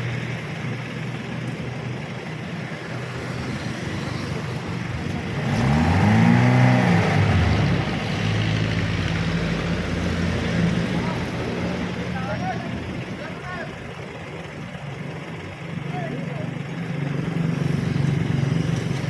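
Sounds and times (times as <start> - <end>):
vehicle engine idling and revving: 0.0 - 19.0.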